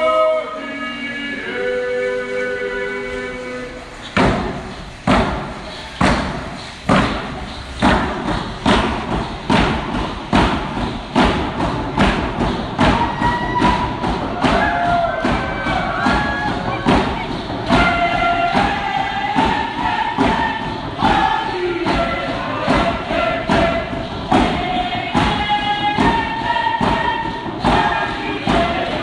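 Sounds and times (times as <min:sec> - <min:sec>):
group singing: 0:00.0 - 0:09.8, 0:11.2 - 0:29.0
drum beat: 0:03.8 - 0:29.0.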